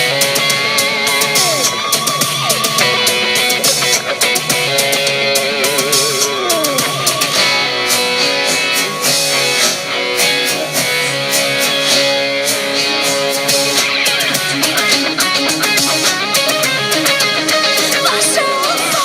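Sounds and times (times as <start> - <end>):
drum beat: 0.0 - 18.4
rock guitar: 0.0 - 19.0.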